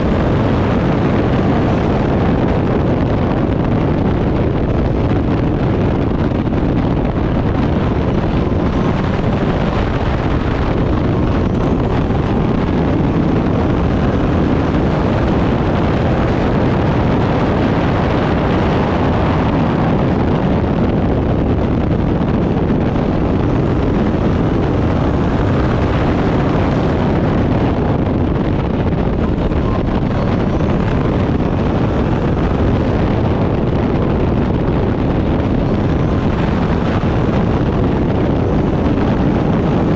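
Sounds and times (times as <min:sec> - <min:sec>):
race car engine drone: 0:00.0 - 0:39.9
wind noise on microphone: 0:00.0 - 0:39.9.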